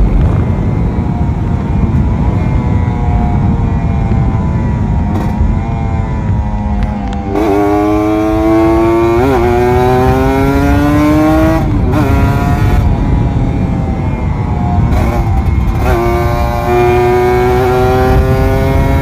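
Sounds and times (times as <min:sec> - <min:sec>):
wind on microphone: 0:00.0 - 0:19.0
two-stroke motorcycle engine: 0:00.1 - 0:19.0.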